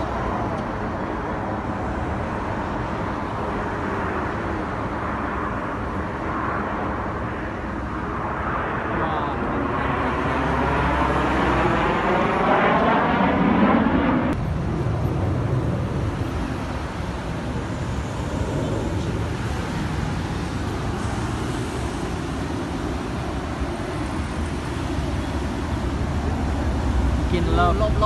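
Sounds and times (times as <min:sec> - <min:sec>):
distant jet noise: 0:00.0 - 0:28.0
jet aircraft passing overhead: 0:00.0 - 0:28.0.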